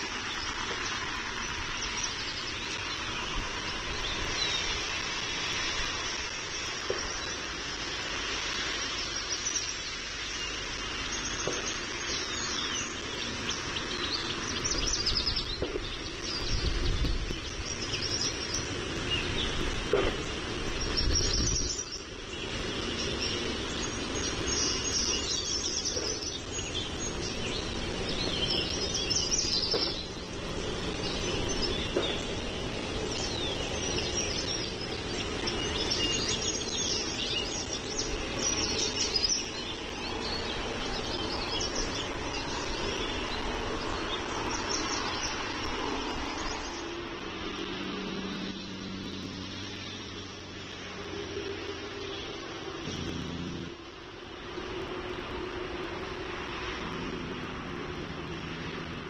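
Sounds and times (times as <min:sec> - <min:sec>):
low background hum: 0:00.0 - 0:59.0
low engine-like drone: 0:00.0 - 0:59.0
small birds chirping: 0:00.0 - 0:59.0.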